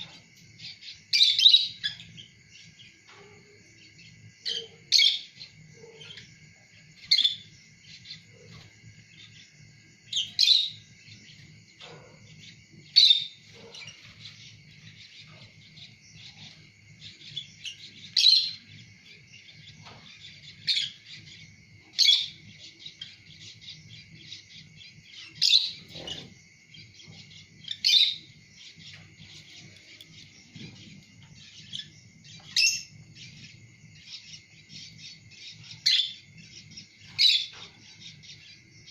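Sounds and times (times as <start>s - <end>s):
chatter of many birds: 0.0s - 38.9s.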